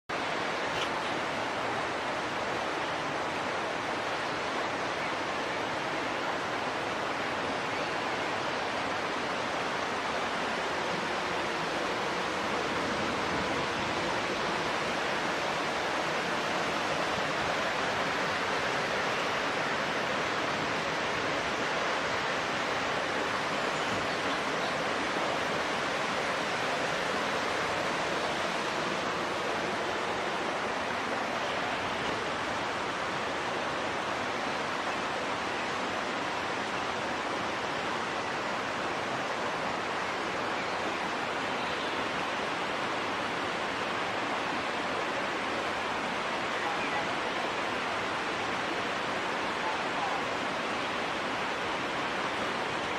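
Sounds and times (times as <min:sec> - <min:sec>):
floodwater rushing: 0:00.1 - 0:52.9.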